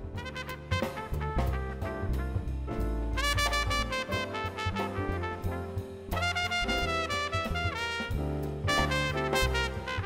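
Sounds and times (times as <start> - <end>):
jazz music with brass horns: 0.0 - 10.0.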